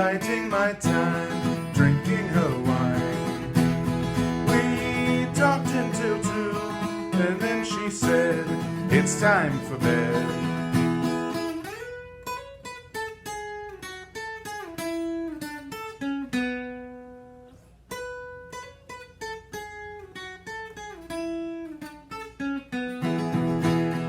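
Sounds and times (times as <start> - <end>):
acoustic guitar plucked melody: 0.0 - 24.0.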